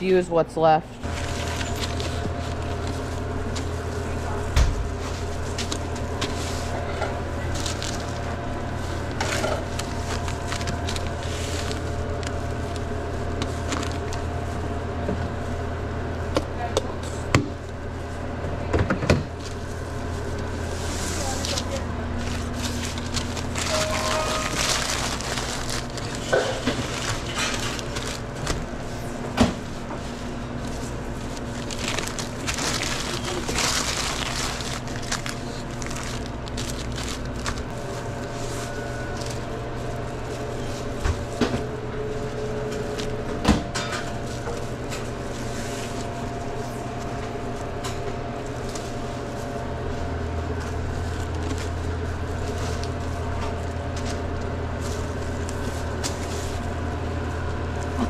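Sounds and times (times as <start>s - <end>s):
steady machine hum: 0.0s - 58.0s
plastic or paper crinkling: 1.0s - 14.8s, 19.3s - 43.3s, 44.1s - 56.8s.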